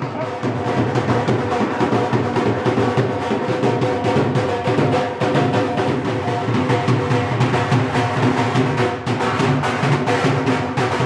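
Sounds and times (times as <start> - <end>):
dhol drumming: 0.0 - 11.0.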